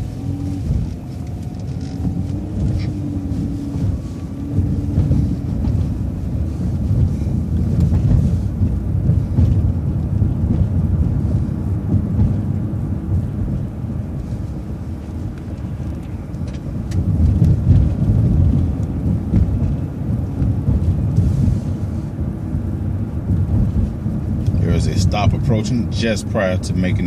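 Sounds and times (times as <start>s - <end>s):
engine and road rumble: 0.0s - 27.0s
wind buffeting microphone: 0.0s - 27.0s.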